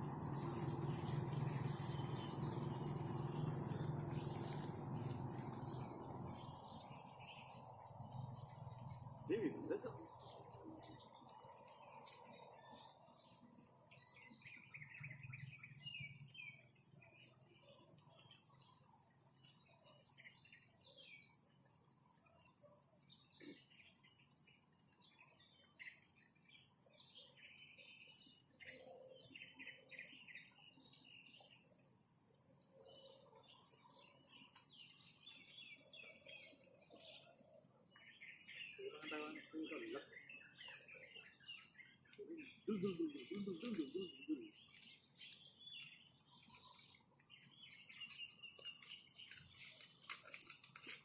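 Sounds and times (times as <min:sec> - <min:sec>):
insects trilling: 0:00.0 - 0:51.0
small birds chirping: 0:00.0 - 0:51.0.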